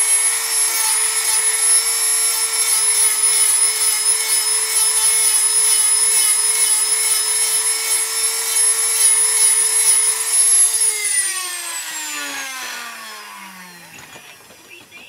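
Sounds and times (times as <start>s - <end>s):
rotary tool grinding wood: 0.0s - 15.0s.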